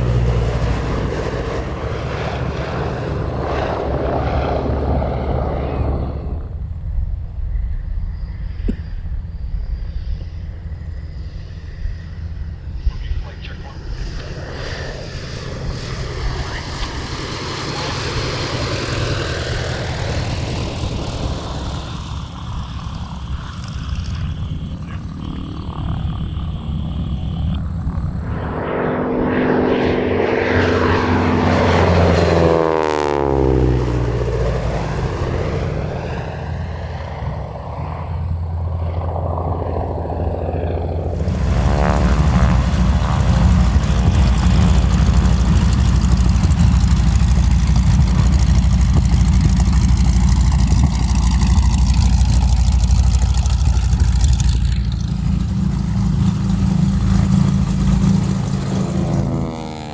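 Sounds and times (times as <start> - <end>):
piston aircraft engine running: 0.0 - 59.9
propeller plane flying overhead: 0.0 - 59.9.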